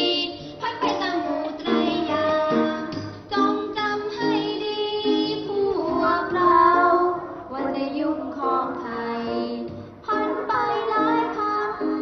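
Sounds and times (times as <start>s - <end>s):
children's song with instruments: 0.0s - 12.0s.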